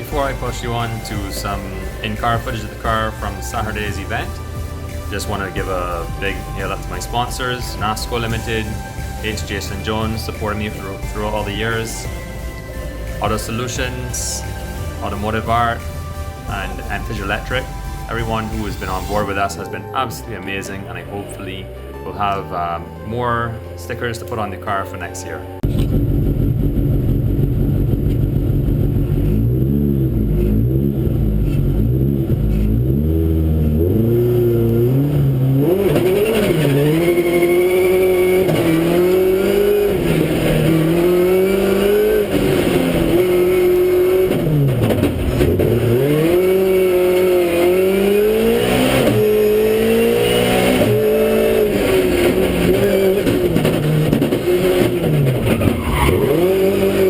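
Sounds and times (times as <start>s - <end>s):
race car engine revving: 0.0s - 19.7s, 25.7s - 57.0s.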